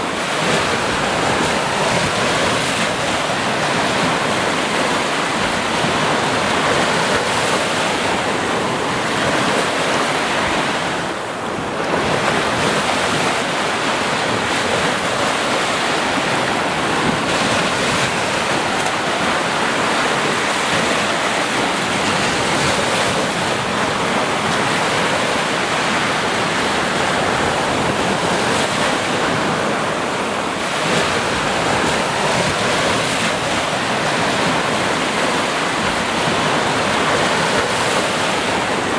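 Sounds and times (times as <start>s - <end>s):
sea waves breaking on beach: 0.0s - 38.9s.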